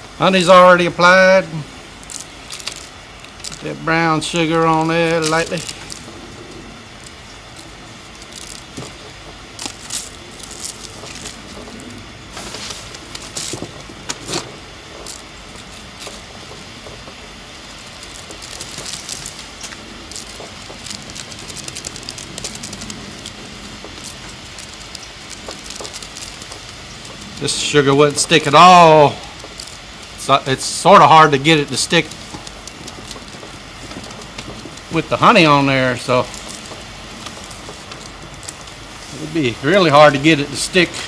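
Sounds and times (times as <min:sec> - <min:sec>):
steady background hiss: 0:00.0 - 0:41.0
sugar crackling and rustling: 0:00.0 - 0:41.0.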